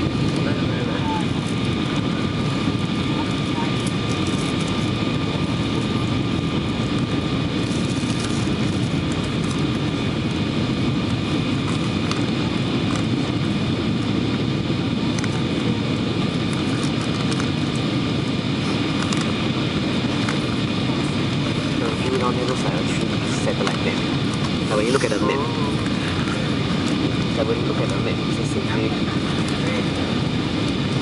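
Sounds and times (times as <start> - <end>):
airflow and engine rush: 0.0 - 31.0.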